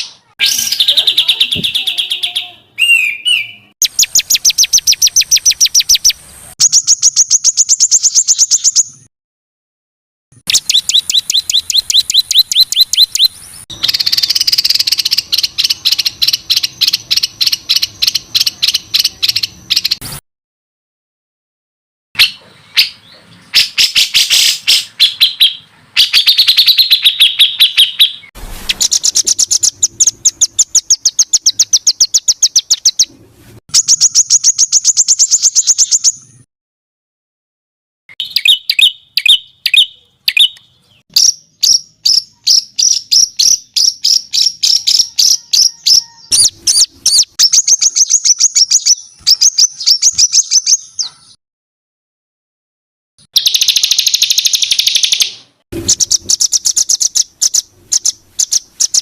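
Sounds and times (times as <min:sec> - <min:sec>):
songbird harsh repeated notes: 0:00.0 - 0:09.1, 0:10.4 - 0:20.1, 0:22.2 - 0:33.1, 0:38.1 - 0:51.4, 0:53.3 - 0:59.0.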